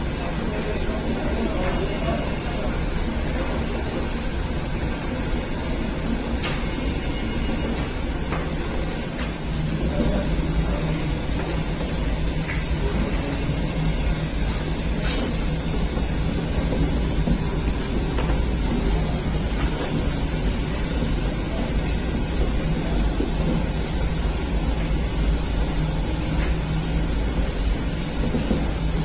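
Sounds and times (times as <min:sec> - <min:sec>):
machinery motor hum and rumble: 0:00.0 - 0:29.0.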